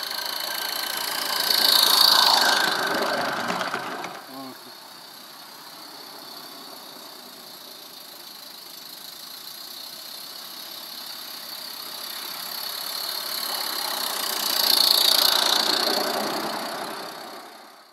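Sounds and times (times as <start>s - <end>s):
model steam locomotive running: 0.0s - 17.9s.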